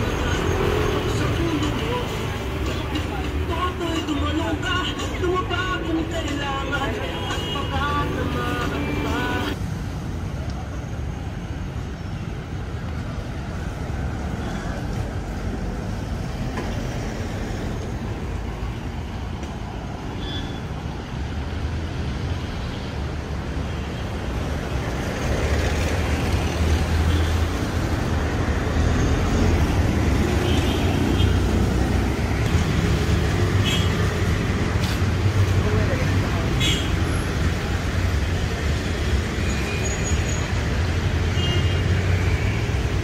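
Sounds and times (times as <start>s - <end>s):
passing vehicles: 0.0s - 43.0s.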